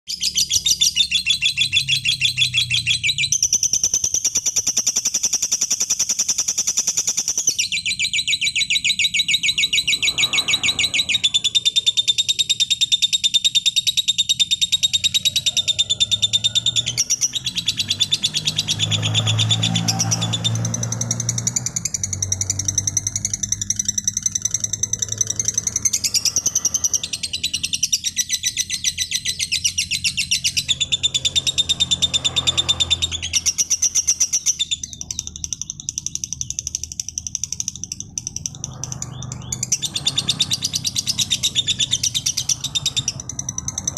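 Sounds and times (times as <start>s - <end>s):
bird chattering trill: 0.1s - 43.9s.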